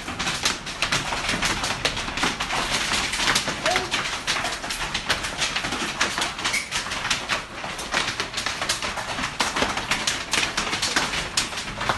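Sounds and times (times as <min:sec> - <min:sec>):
hailstones pelting down: 0:00.0 - 0:11.9.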